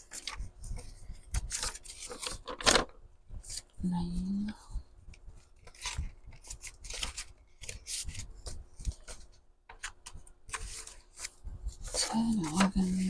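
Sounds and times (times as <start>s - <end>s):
paper sheets rustling: 0.0s - 2.8s, 5.4s - 13.0s.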